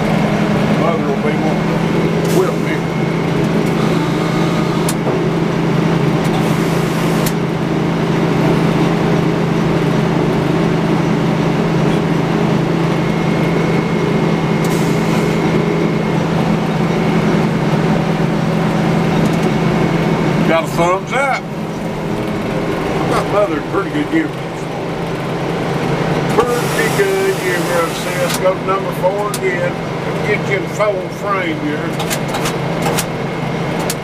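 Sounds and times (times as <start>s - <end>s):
sawmill machinery drone: 0.0s - 34.0s.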